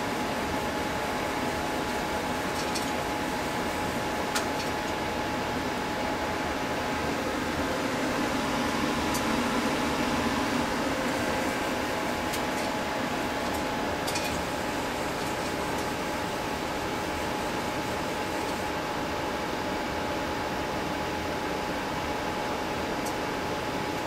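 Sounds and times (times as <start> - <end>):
faint steady whine: 0.0 - 24.0
whirring room noise: 0.0 - 24.0.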